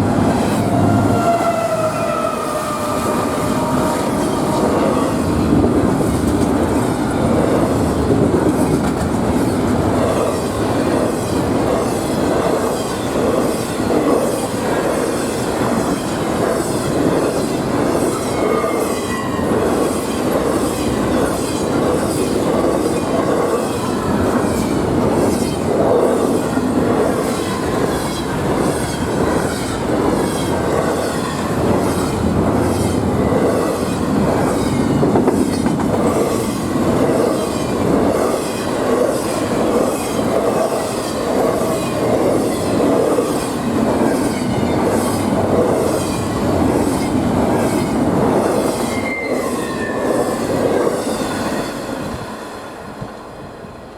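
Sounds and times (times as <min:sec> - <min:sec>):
train rumble: 0:00.0 - 0:53.9
train wheels clicking over rail joints: 0:02.6 - 0:18.2, 0:19.6 - 0:51.6.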